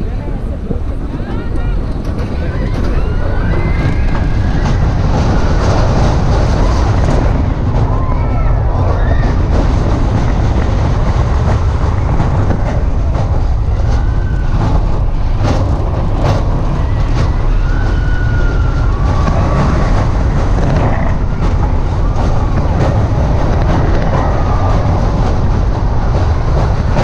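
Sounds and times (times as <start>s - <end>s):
roller coaster wheels rumbling: 0.0s - 27.0s
wind rush on microphone: 0.0s - 27.0s
wheel squeals: 1.3s - 27.0s.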